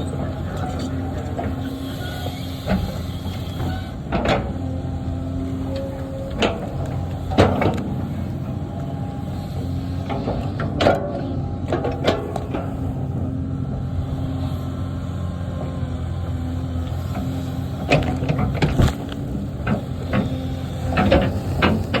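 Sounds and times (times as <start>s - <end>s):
earthmoving machine engine running: 0.0s - 22.0s.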